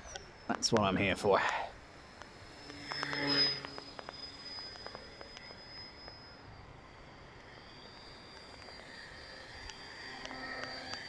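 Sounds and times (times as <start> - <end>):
model plane motor whining: 0.0 - 11.0.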